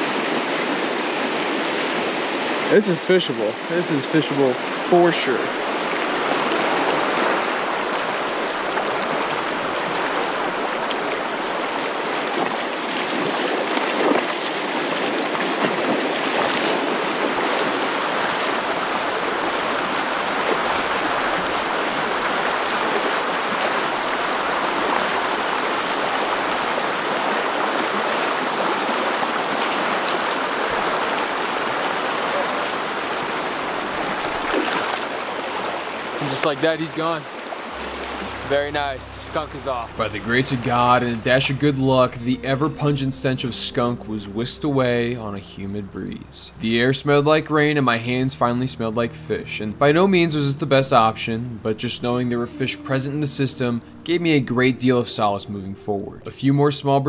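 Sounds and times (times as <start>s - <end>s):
creek rushing over rocks: 0.0s - 45.9s.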